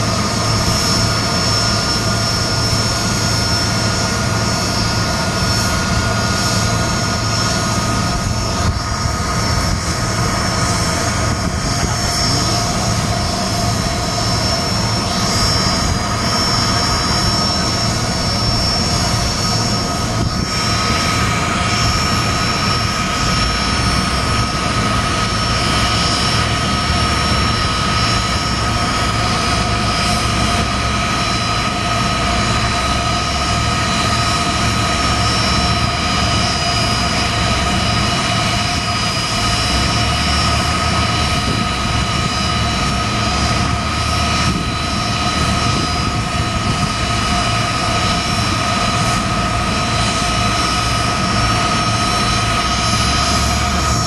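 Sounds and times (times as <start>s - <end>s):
high steady engine tones: 0.0s - 54.0s
jet engines idling: 0.0s - 54.0s.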